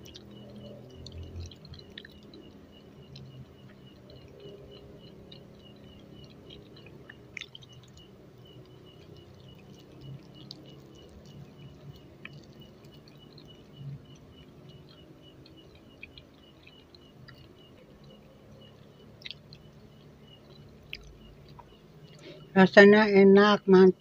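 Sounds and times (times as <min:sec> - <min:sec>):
wet mouth clicks: 0:00.0 - 0:18.2, 0:18.8 - 0:22.5
quiet chewing: 0:00.0 - 0:22.6.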